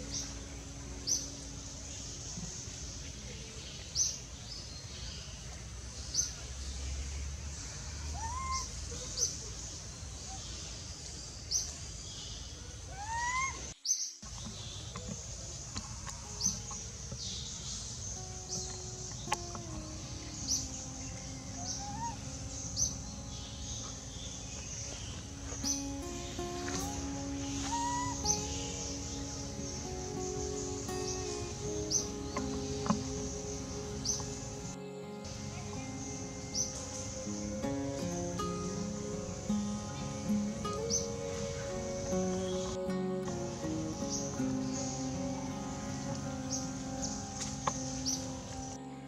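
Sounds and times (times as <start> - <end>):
insect drone: 0.0 - 11.9, 12.6 - 49.0
bird chirping: 0.0 - 49.0
forest hiss: 0.0 - 49.0.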